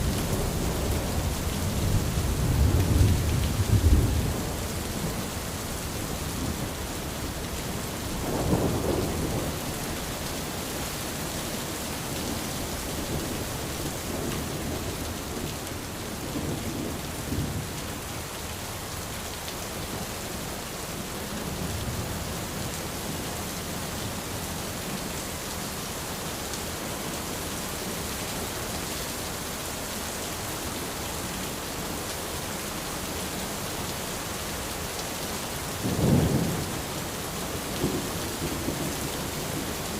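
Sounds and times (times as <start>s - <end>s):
rain on an umbrella: 0.0s - 39.9s.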